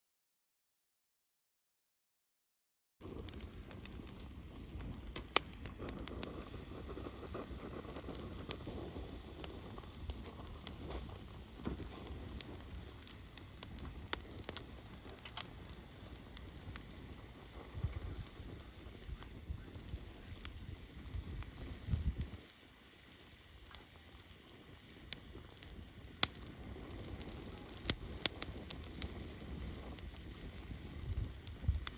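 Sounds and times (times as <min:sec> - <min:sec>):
wood fire crackling: 0:03.0 - 0:31.9.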